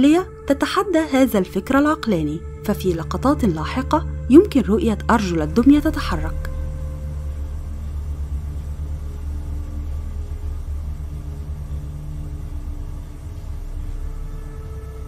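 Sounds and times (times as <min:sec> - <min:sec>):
dark ambient drone music: 0:00.0 - 0:15.0.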